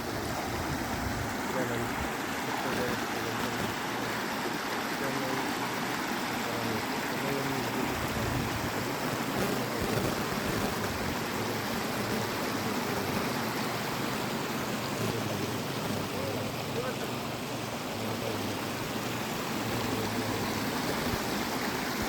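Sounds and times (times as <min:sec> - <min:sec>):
water rushing and churning: 0:00.0 - 0:22.0.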